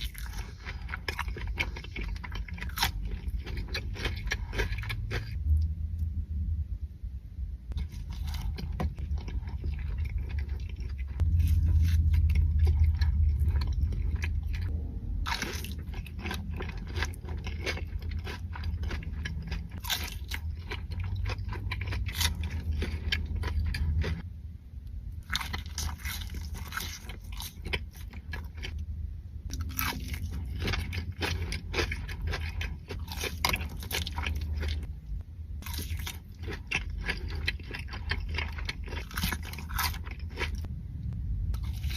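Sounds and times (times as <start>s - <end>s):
crunchy food chewing: 0.0s - 5.6s, 7.7s - 24.3s, 25.2s - 28.8s, 29.5s - 34.9s, 35.6s - 40.7s
steady low hum: 0.0s - 41.9s.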